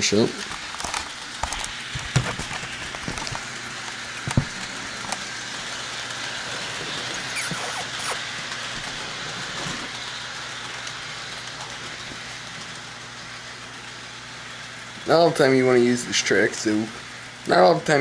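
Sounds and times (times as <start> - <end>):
faint motor hum: 0.0 - 18.0
model train rolling on track: 0.0 - 18.0.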